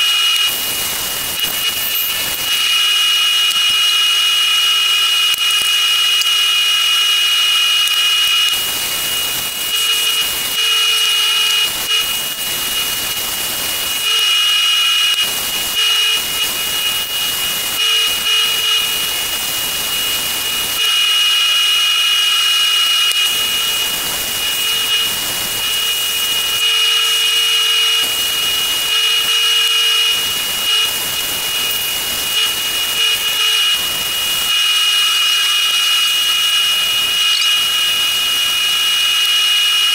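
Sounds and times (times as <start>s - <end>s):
wood lathe whining: 0.0s - 39.9s.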